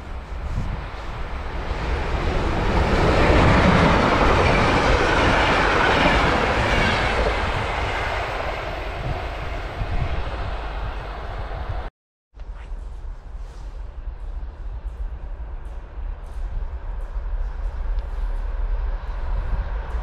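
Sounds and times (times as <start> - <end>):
passenger train passing: 0.0 - 11.9, 13.0 - 20.0.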